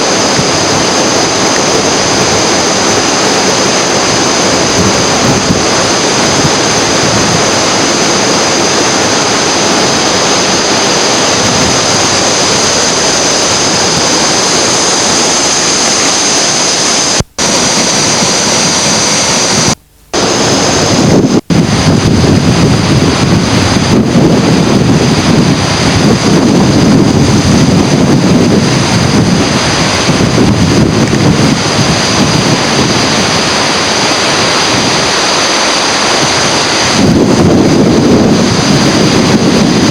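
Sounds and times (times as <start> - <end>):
rough water rushing: 0.0 - 39.9
wind buffeting microphone: 0.0 - 39.9.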